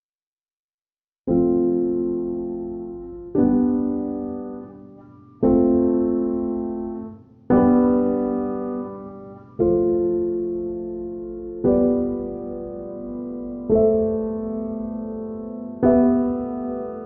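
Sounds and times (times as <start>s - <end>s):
slow piano chords: 1.3s - 17.0s.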